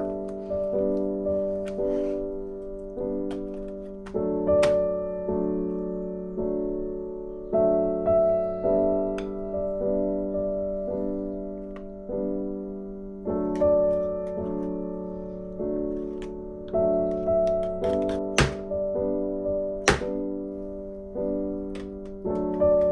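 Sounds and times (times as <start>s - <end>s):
soft piano chords: 0.0s - 22.9s.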